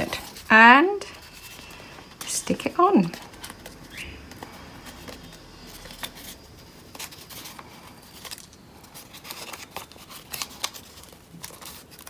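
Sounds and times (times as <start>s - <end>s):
paper and card rustling: 0.0s - 12.0s.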